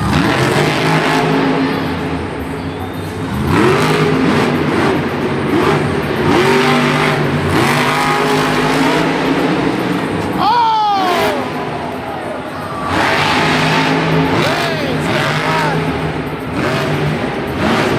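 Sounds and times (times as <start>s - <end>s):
monster truck engine revving: 0.0s - 17.9s.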